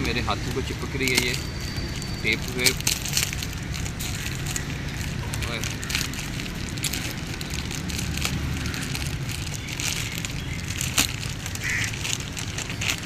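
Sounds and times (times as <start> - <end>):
plastic wrap crinkling and tearing: 0.0 - 13.0.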